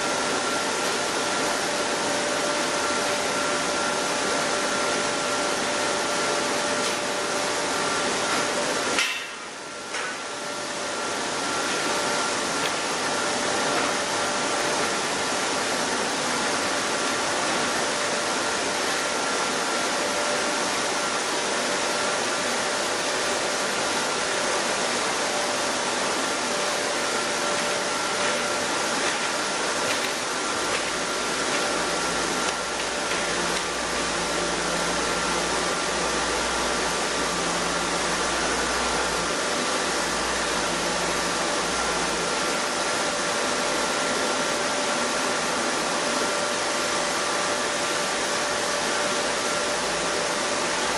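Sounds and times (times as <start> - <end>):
milling machinery running: 0.0 - 50.9.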